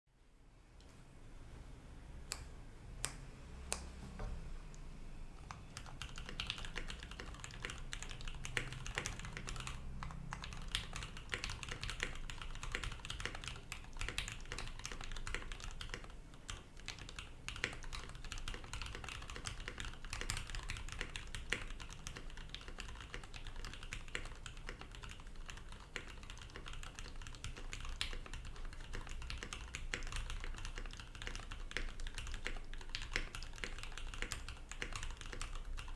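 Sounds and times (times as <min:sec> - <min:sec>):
mechanical keyboard typing: 0:05.5 - 0:35.9.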